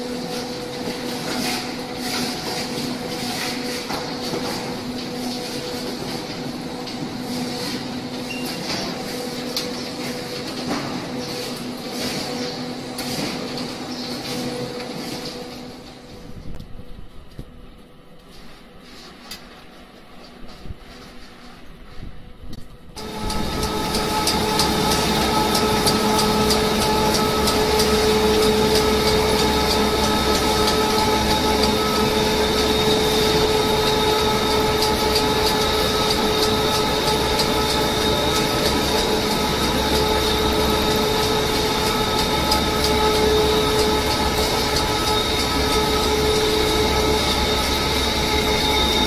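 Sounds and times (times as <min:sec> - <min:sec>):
machinery din with whine and rattle: 0:00.0 - 0:49.0.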